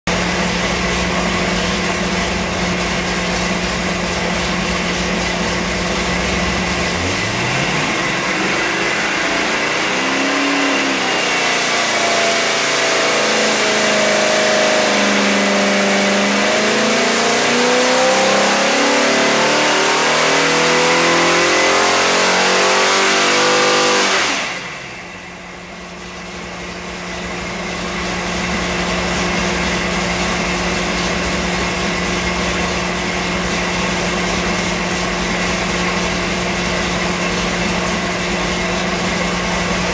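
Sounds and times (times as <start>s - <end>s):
engine idling and revving: 0.1s - 39.9s.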